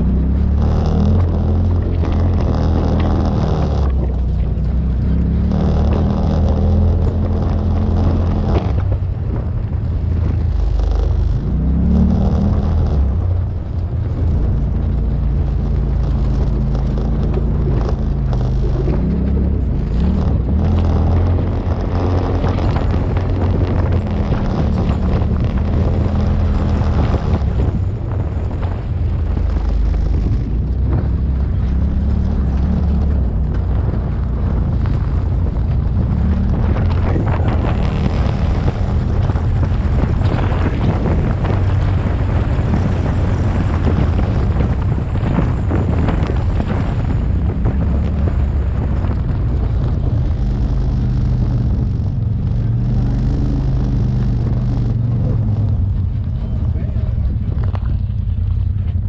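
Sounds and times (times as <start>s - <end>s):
off-road vehicle engine: 0.0s - 59.0s
tyre noise: 0.0s - 59.0s
wind rush: 0.0s - 59.0s.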